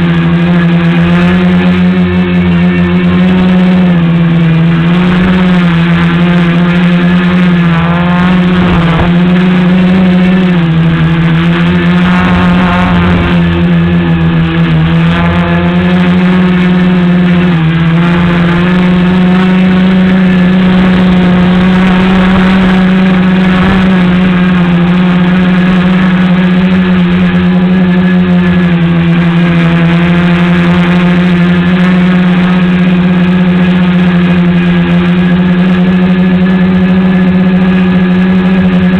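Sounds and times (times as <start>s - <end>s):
drone motors and propellers droning: 0.0s - 38.9s.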